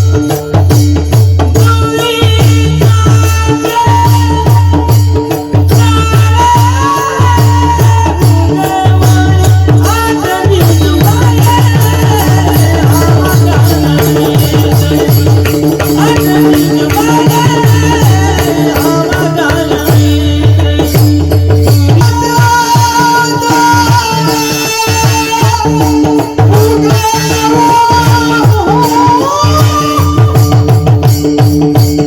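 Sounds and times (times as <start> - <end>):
drum strokes: 0.0 - 32.0
rattling percussion: 0.0 - 32.0.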